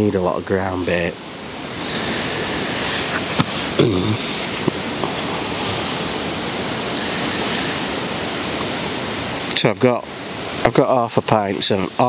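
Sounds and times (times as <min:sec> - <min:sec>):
rushing wind: 0:00.0 - 0:12.0.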